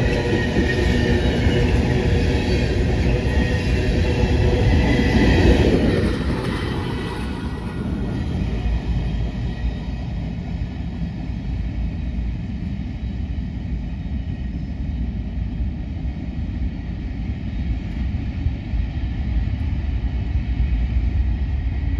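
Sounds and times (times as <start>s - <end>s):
freight train cars rumbling: 0.0s - 21.9s.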